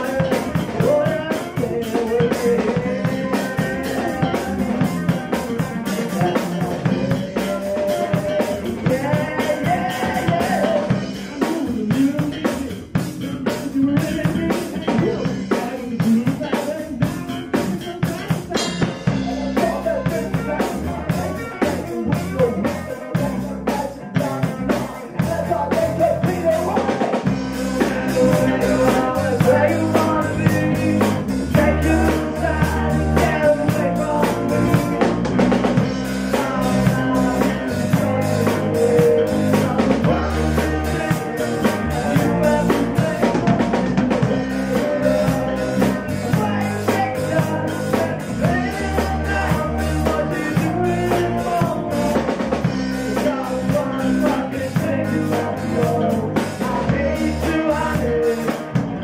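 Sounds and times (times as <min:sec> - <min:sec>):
drum kit beat: 0:00.0 - 0:59.0
rock band playing live: 0:00.0 - 0:59.0.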